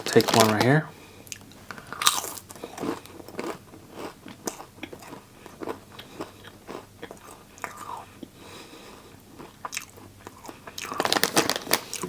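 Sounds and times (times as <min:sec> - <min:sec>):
person chewing crunchy snack: 0:00.0 - 0:12.0.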